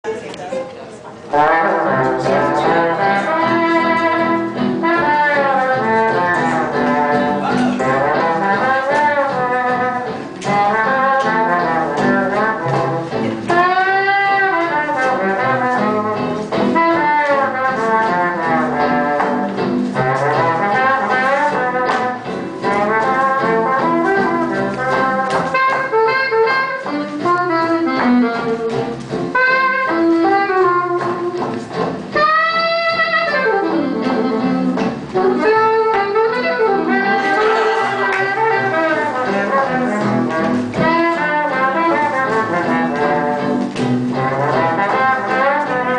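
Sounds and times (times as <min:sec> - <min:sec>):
swing jazz brass section: 0:01.3 - 0:45.9.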